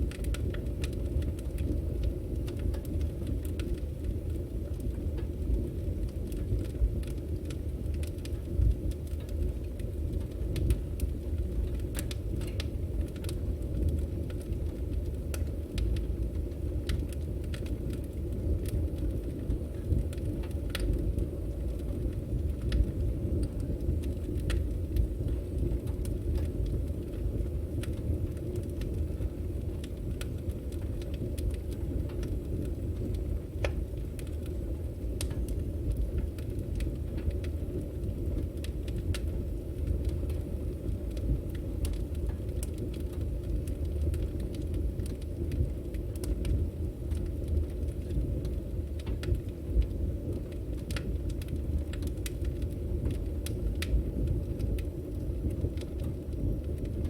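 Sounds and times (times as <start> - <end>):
firewood crackling: 0.0 - 57.0.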